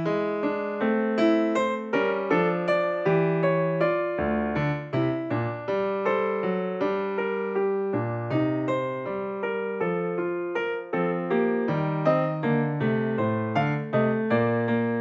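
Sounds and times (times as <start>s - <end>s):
electric piano playing gentle melody: 0.0s - 15.0s.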